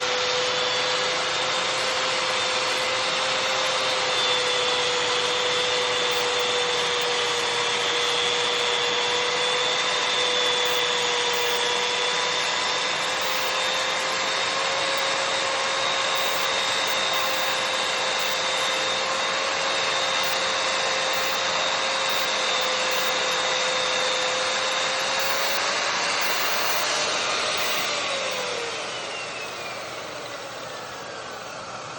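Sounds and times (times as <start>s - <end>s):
saw cutting through wood: 0.0s - 31.9s
saw motor whine: 0.0s - 31.9s.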